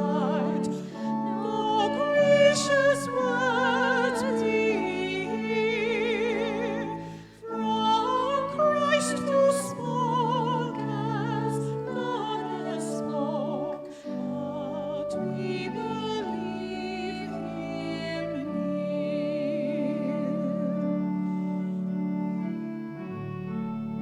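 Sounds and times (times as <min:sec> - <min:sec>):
singer with strong vibrato: 0:00.0 - 0:21.1.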